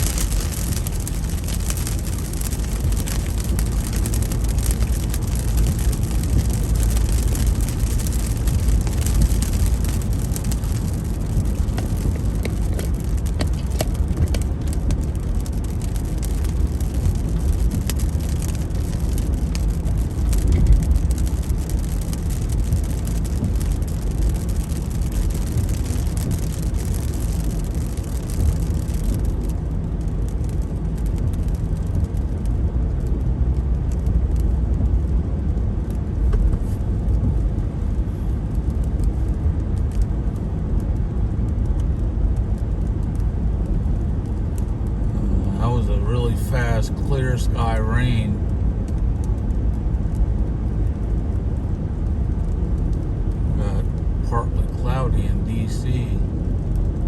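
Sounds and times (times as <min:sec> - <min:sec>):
car driving on highway: 0:00.0 - 0:57.0.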